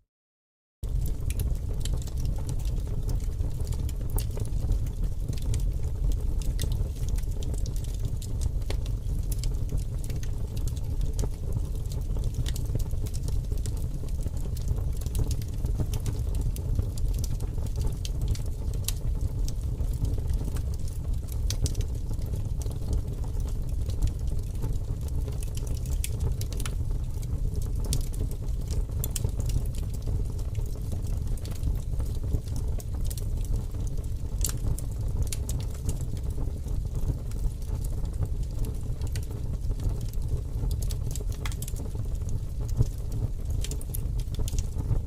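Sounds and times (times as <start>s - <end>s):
low fire rumble: 0.8s - 45.0s
wood fire crackling and popping: 0.8s - 45.0s.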